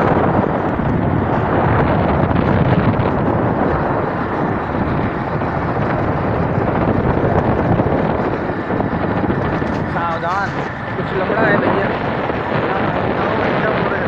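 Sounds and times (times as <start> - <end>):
vehicle running noise: 0.0 - 14.0
wind blowing over microphone: 0.0 - 14.0.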